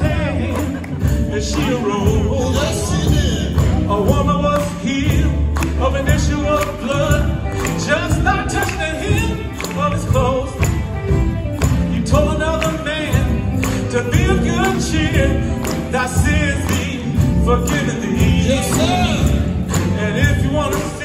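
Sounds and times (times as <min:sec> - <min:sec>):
male vocal quartet singing: 0:00.0 - 0:10.8, 0:12.0 - 0:21.0
bass guitar: 0:00.0 - 0:21.0
drums: 0:00.0 - 0:21.0.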